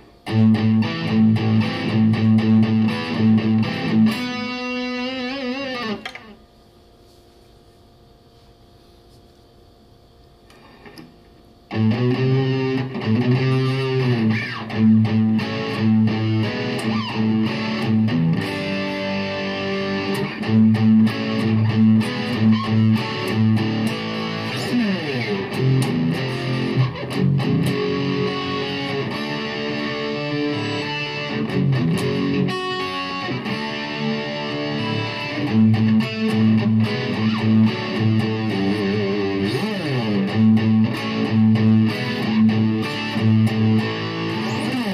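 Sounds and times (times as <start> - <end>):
distorted electric guitar riffs: 0.0 - 6.4, 11.7 - 44.9.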